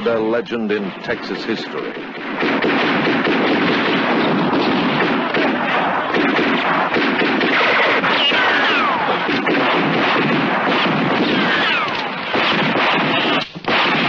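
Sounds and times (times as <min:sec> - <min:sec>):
explosions: 0:00.7 - 0:14.0
gatling gun firing: 0:01.8 - 0:14.0.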